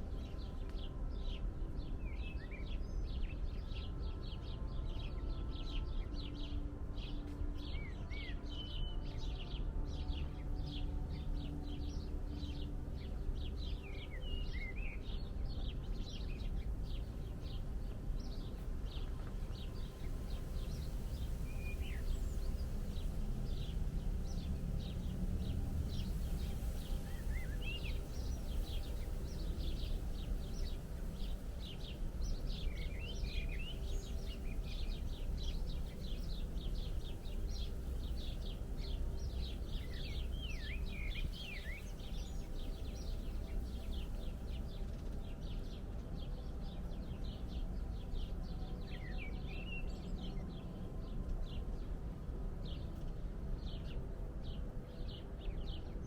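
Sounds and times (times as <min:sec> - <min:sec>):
low background rumble: 0:00.0 - 0:56.0
small birds chirping: 0:00.0 - 0:56.0.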